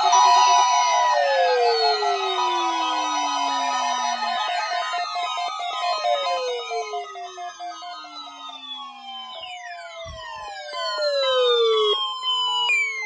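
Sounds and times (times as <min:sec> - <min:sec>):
siren-like alarm sweeps: 0:00.0 - 0:13.0.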